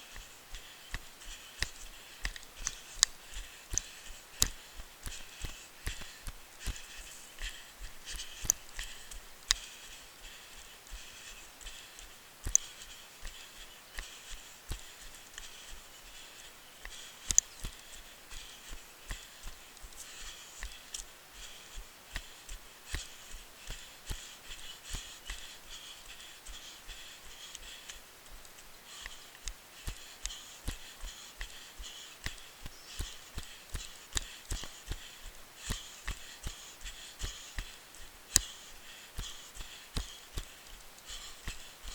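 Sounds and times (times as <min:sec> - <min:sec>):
running footsteps on a trail: 0:00.0 - 0:41.9.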